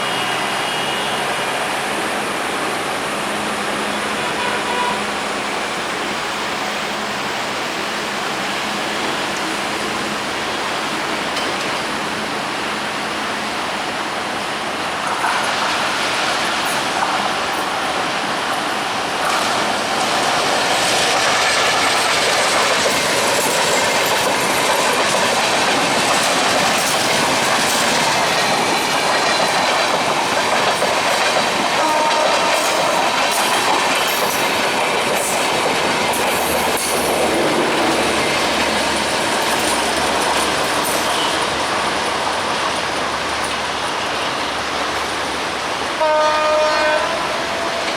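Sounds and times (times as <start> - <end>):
passenger train passing: 0.0 - 47.9.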